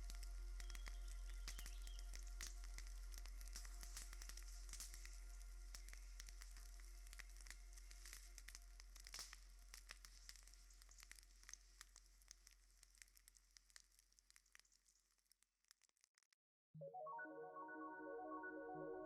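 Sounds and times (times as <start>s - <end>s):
faint crackling and hiss: 0.0s - 16.2s.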